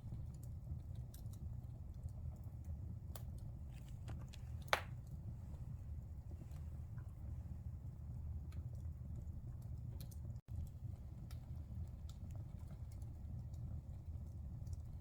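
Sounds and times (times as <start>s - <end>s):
fire burning with crackles: 0.0s - 15.0s.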